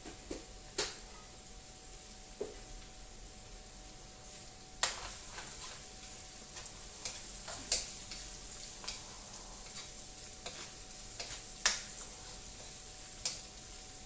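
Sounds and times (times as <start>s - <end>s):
oil sizzling in a pot: 0.0s - 14.0s.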